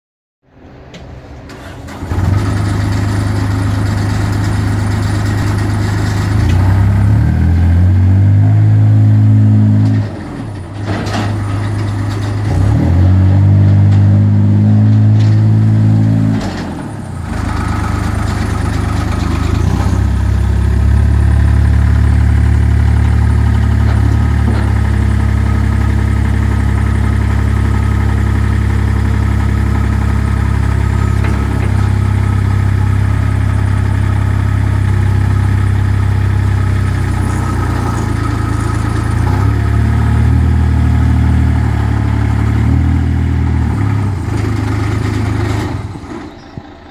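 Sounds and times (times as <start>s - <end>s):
diesel engine running: 0.5s - 46.9s.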